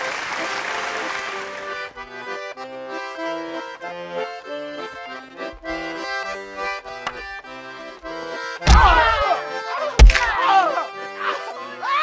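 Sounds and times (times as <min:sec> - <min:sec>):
accordion folk tune: 0:00.0 - 0:12.0.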